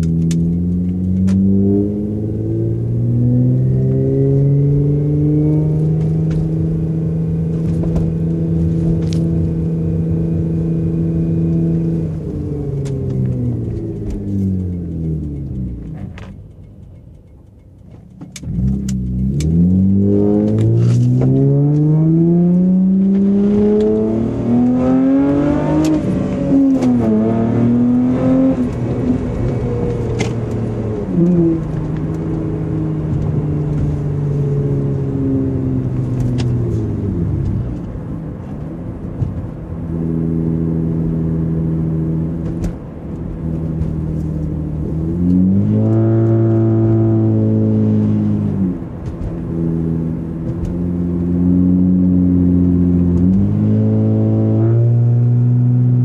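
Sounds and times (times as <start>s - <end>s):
car engine heard from inside cabin: 0.0s - 56.0s.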